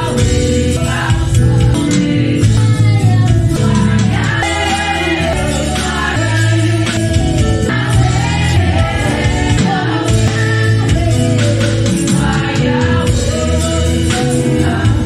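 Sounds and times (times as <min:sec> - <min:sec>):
instrumental accompaniment with heavy bass: 0:00.0 - 0:15.0
women singing gospel song: 0:00.0 - 0:15.0.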